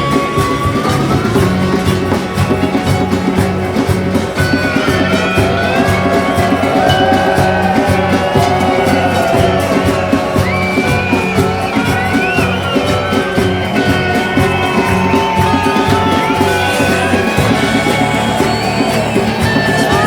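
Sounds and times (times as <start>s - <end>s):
music with steady beat: 0.0s - 20.0s.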